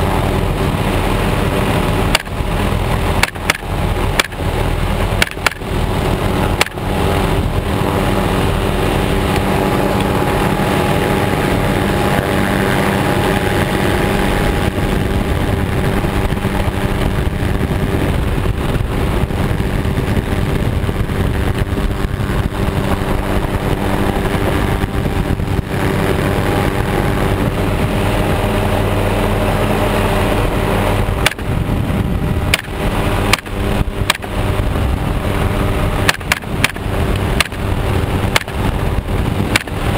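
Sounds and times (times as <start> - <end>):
helicopter engine and rotor drone: 0.0 - 39.9
rushing air: 0.0 - 39.9.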